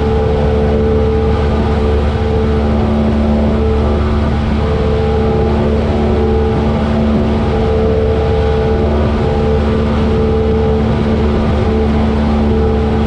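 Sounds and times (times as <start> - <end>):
light airplane engine droning: 0.0 - 13.0.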